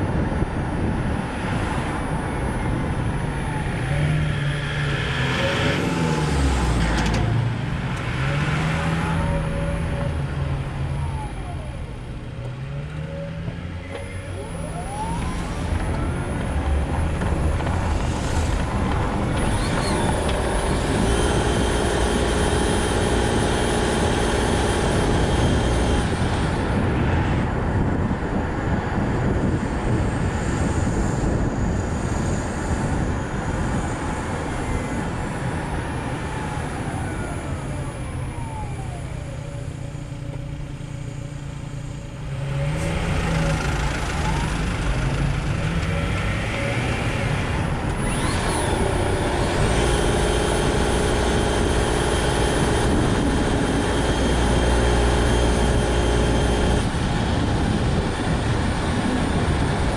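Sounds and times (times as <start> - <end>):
road and tyre noise: 0.0 - 59.9.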